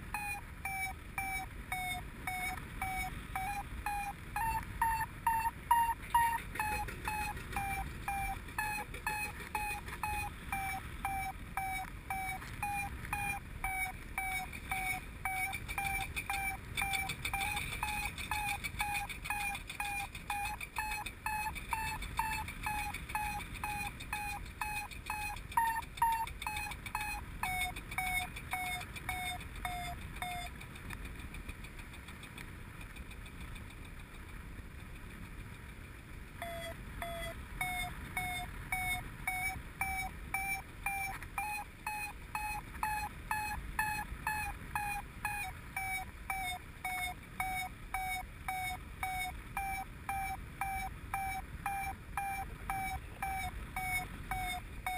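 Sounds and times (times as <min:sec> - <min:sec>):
variometer short beeps: 0:00.0 - 0:30.8, 0:36.4 - 0:54.9.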